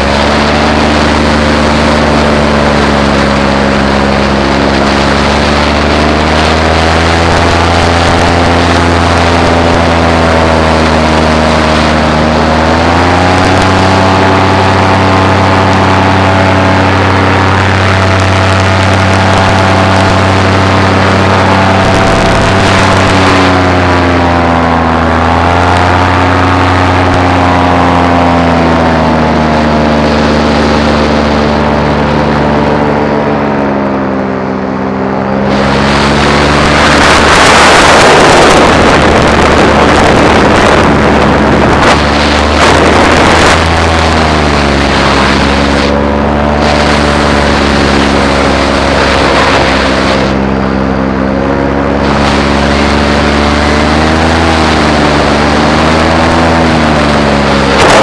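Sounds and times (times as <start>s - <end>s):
loud rushing noise: 0.0s - 58.0s
paramotor engine and propeller: 0.0s - 58.0s.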